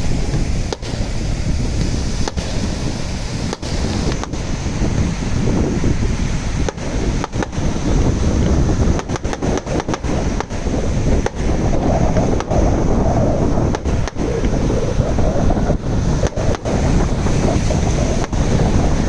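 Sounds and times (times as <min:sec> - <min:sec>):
surf: 0:00.0 - 0:19.0
wind buffeting microphone: 0:00.0 - 0:19.0.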